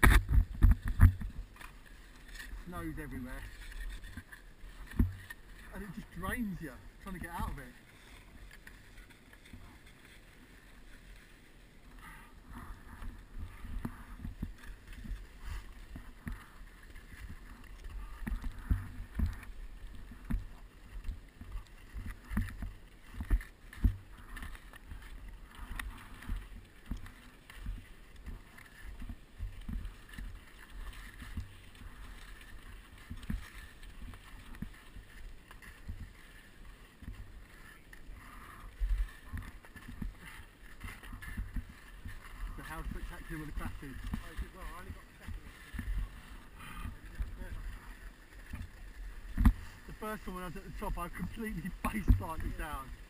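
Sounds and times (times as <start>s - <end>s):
skis scraping over snow: 0.0s - 53.0s.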